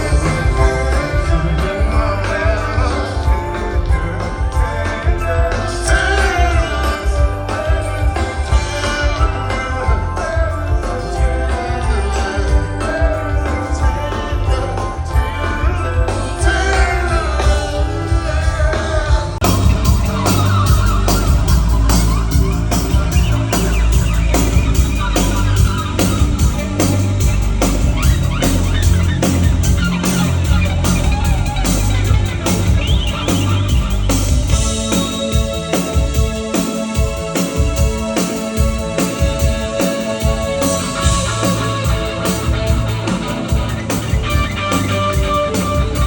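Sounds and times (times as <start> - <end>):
held keyboard chords: 0.0 - 46.0
rock band playing with singing: 0.0 - 46.0
steady drum beat: 0.0 - 46.0.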